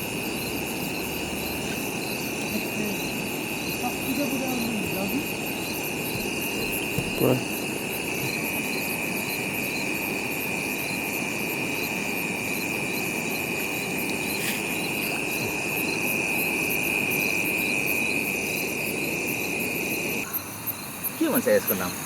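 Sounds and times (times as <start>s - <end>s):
insect chirps: 0.0s - 22.0s
insects high-pitched drone: 0.0s - 22.0s.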